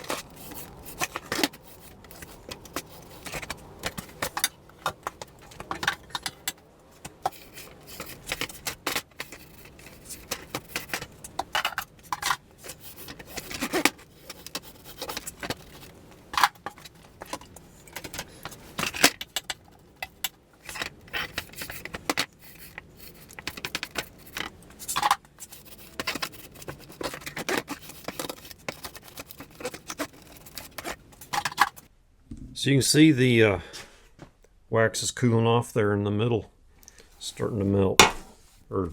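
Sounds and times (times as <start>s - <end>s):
roller scraping and rubbing: 0.0s - 31.9s.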